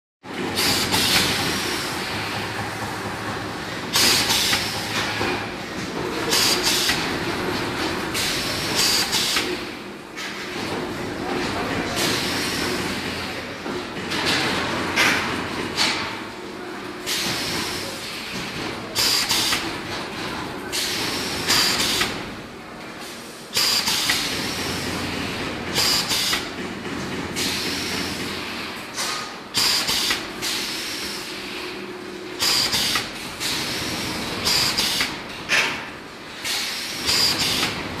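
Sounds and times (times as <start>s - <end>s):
steady factory hum: 0.2s - 38.0s.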